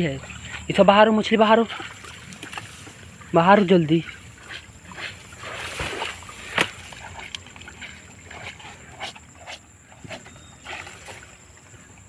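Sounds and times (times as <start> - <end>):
splashes in shallow water: 0.0 - 12.0.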